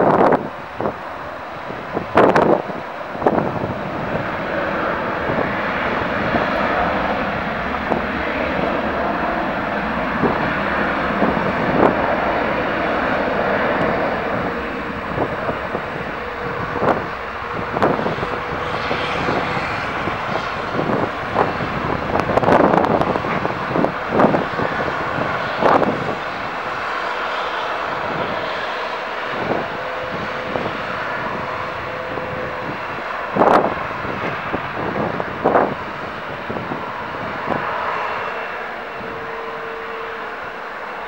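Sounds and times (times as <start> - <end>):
airliner engines running: 0.0 - 41.0.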